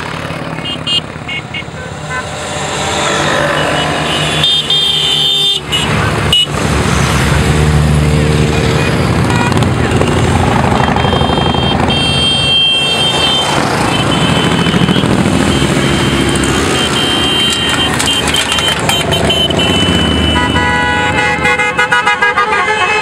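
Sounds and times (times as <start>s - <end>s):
motorcycle engines passing: 0.0s - 23.0s
vehicle horns tooting: 0.6s - 6.6s, 8.4s - 23.0s.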